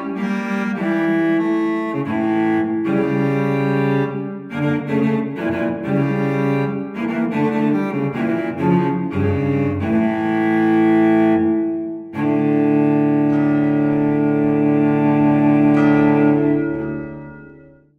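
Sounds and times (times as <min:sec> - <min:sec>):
solo cello music: 0:00.0 - 0:17.9.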